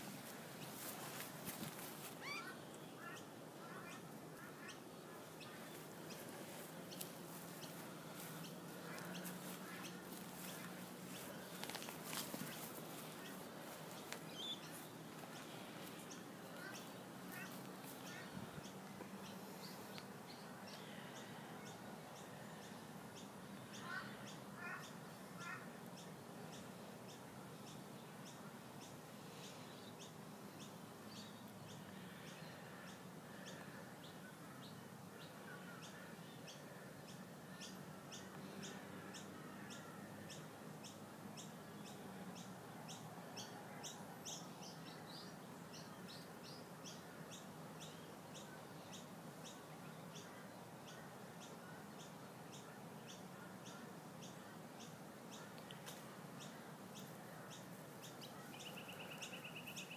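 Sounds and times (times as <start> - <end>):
lower bird calls: 0.0 - 59.9.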